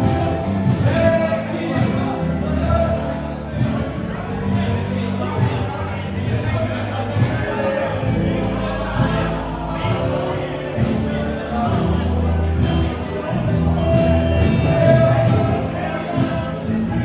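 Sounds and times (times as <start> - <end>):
live band playing: 0.0 - 17.0
low bass notes: 0.0 - 17.0
person singing: 0.0 - 17.0.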